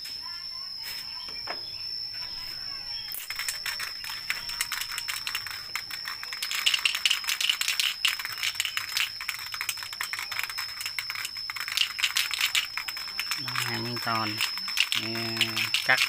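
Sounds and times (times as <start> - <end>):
steady high-pitched whine: 0.0 - 16.0
spray can ball rattling: 2.3 - 16.0.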